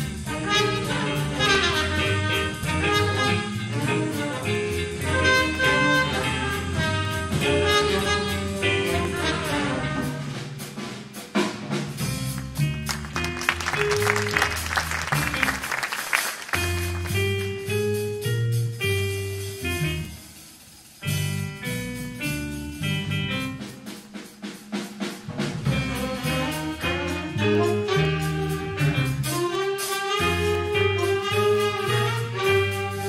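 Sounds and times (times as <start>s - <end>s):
jazz music with brass horns: 0.0s - 33.0s.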